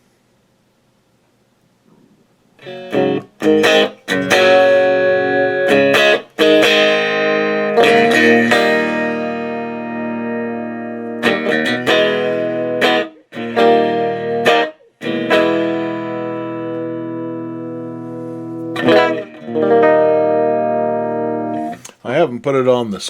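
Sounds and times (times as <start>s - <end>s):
electric guitar chords strummed: 2.6s - 21.9s.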